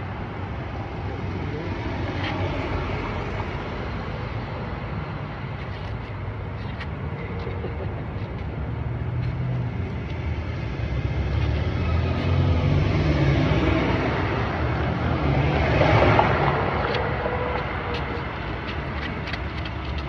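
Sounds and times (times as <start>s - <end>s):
cars passing on street: 0.0s - 20.0s.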